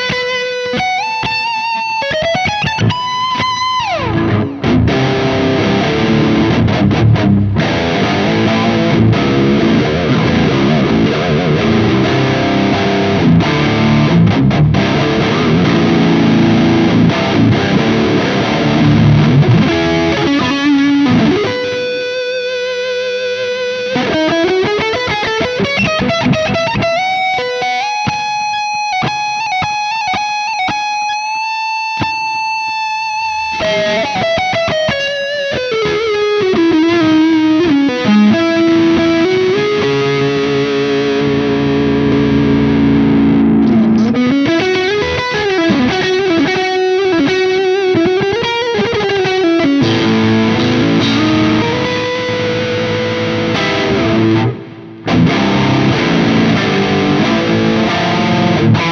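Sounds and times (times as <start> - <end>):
distorted electric guitar lead: 0.0 - 58.9.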